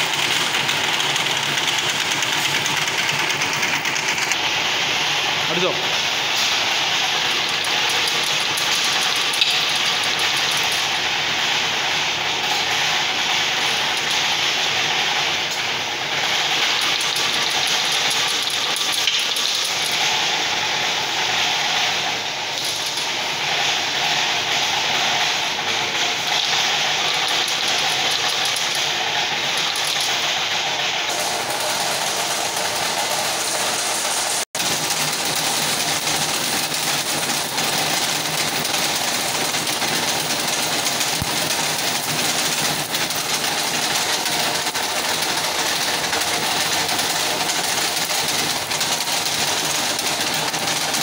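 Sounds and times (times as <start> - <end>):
wire weaving machine hissing: 0.0 - 51.0.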